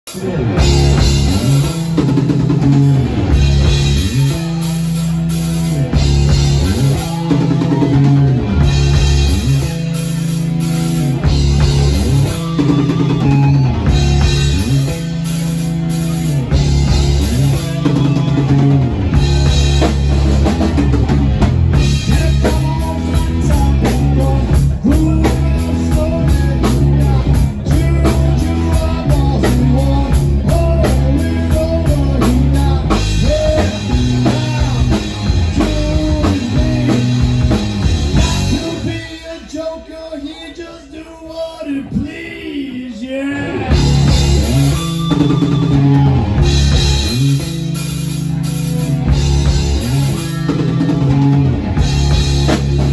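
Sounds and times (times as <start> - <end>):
drum kit: 0.0 - 39.5, 43.4 - 52.9
electric guitar: 0.1 - 39.6, 43.2 - 52.9
heavy deep bass line: 0.1 - 40.1, 43.3 - 52.9.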